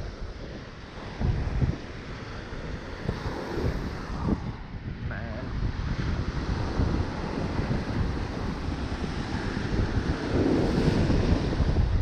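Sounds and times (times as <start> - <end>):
surf washing on shore: 0.0 - 12.0
wind buffeting microphone: 0.0 - 12.0.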